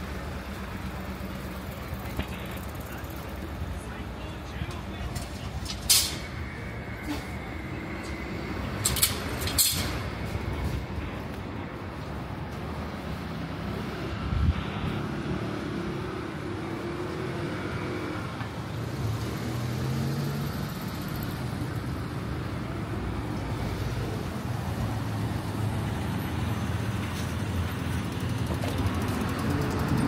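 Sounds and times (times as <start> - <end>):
road noise hum: 0.0 - 30.0.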